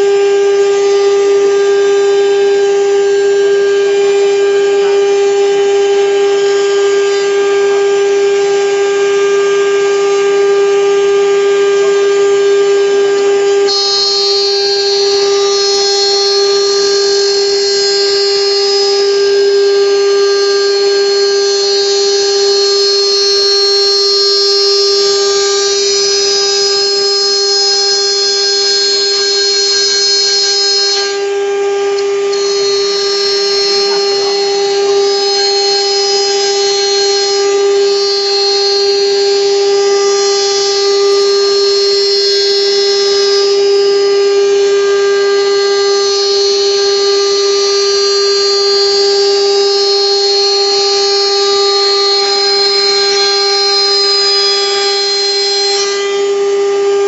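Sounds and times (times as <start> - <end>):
router spindle whine milling wood: 0.0 - 57.0.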